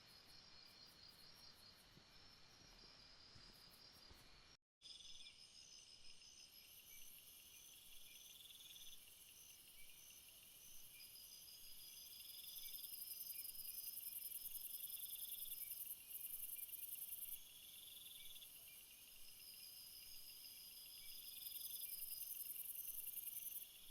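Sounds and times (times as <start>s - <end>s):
insects high steady buzz: 0.0s - 23.9s.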